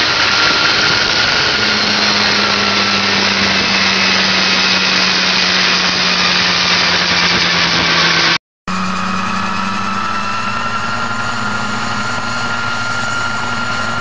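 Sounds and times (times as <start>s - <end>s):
helicopter piston engine running: 0.0s - 14.0s.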